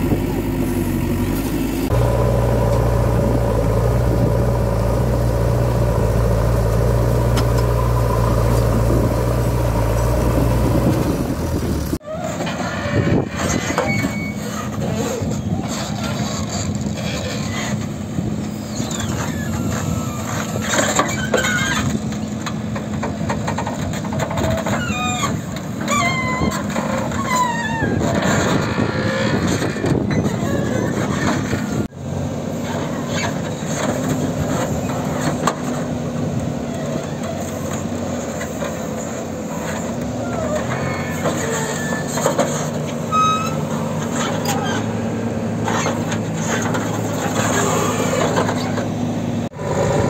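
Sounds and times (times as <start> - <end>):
diesel engine running: 0.0 - 26.1, 28.2 - 50.0
backhoe digging soil: 0.0 - 31.9, 32.5 - 50.0.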